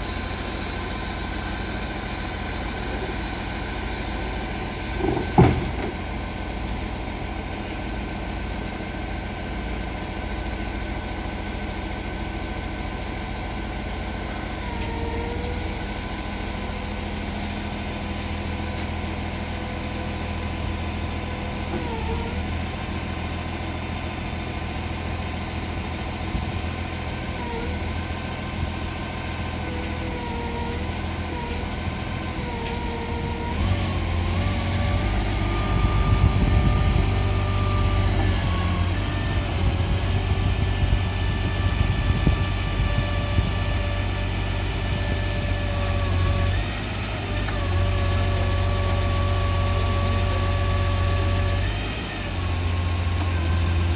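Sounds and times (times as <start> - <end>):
forklift diesel engine running: 0.0 - 53.9.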